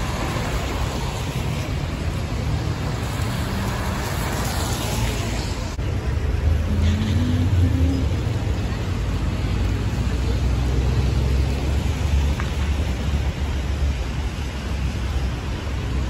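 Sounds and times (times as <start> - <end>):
rumble of passing vehicles: 0.0 - 16.0
tyres hissing on wet road: 0.0 - 16.0.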